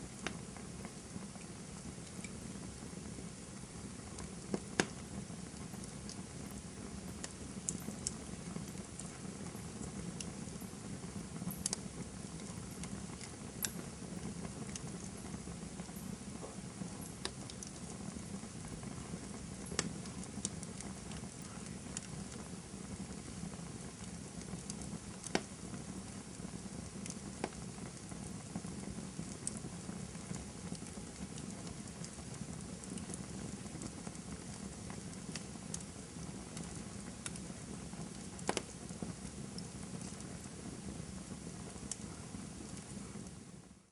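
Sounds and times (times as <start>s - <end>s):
campfire hissing and rustling: 0.0s - 43.9s
fire crackles and pops: 0.0s - 43.9s.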